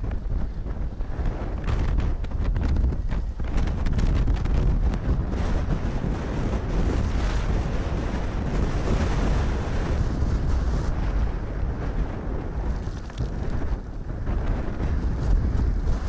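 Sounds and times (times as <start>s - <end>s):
strong wind gusting: 0.0s - 16.0s
wind buffeting microphone: 0.0s - 16.0s.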